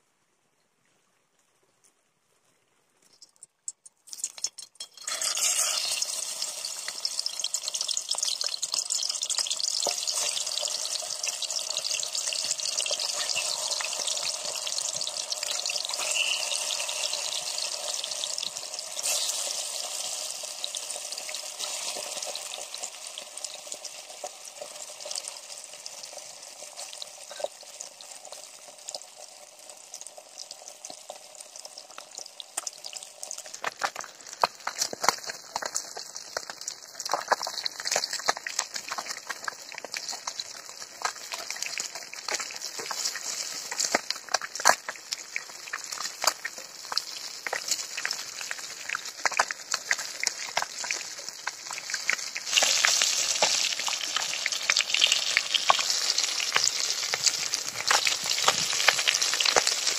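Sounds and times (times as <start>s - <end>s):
fish sizzling in hot oil: 3.1s - 59.9s
oil crackling and spattering: 3.1s - 59.9s.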